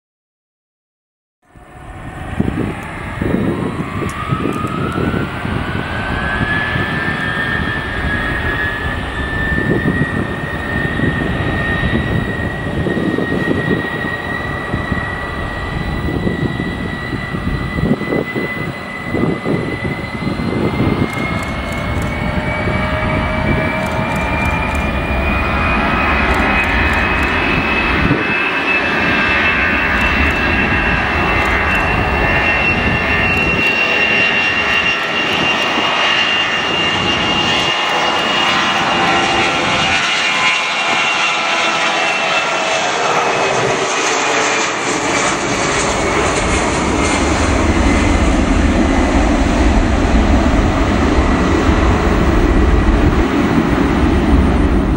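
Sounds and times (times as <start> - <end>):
jet engines at takeoff power: 1.4 - 54.9.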